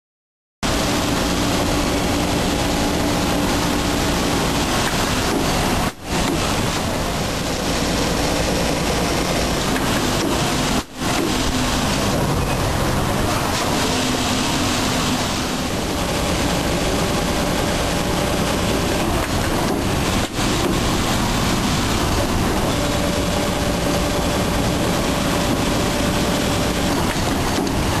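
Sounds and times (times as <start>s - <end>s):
industrial sewing machines running: 0.6s - 28.0s.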